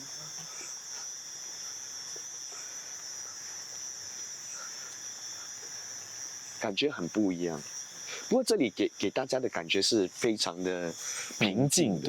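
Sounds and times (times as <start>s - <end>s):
crickets and night insects chirping: 0.0s - 12.0s.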